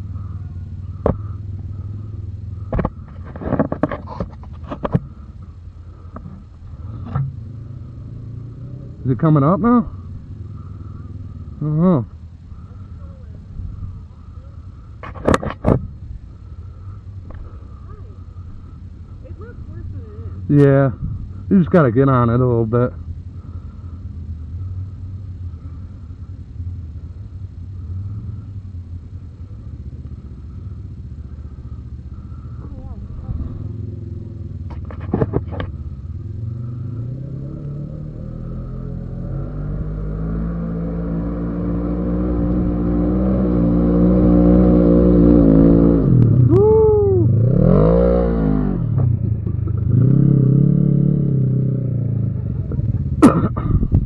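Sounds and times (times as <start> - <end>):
atv engine idling: 0.0 - 54.0.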